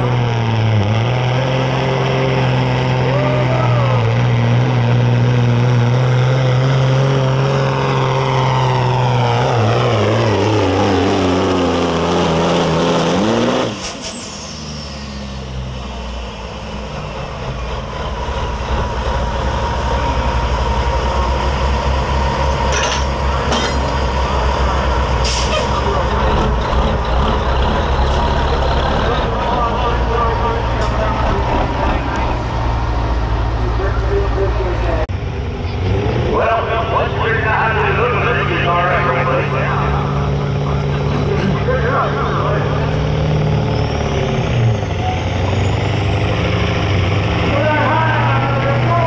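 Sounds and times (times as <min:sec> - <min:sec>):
diesel truck engine: 0:00.0 - 0:49.0.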